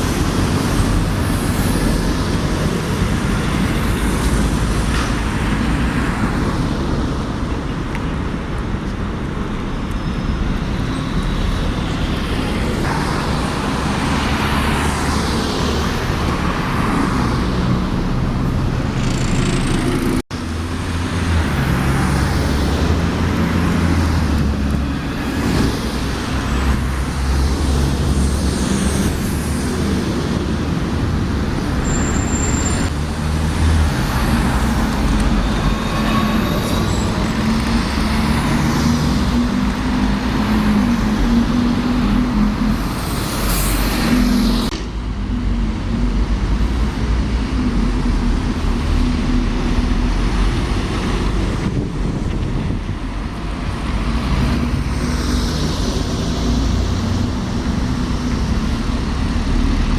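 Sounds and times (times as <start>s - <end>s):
heavy engines running: 0.0s - 59.9s
road traffic passing: 0.0s - 59.9s.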